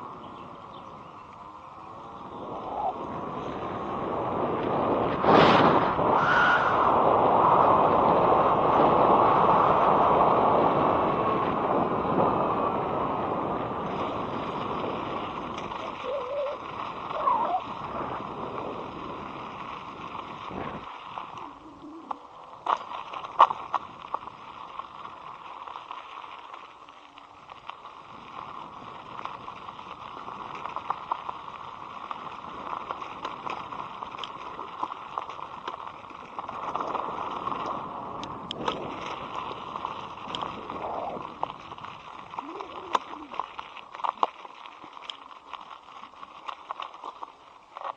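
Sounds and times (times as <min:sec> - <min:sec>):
wind rushing over microphone: 0:00.0 - 0:25.4, 0:28.0 - 0:43.6.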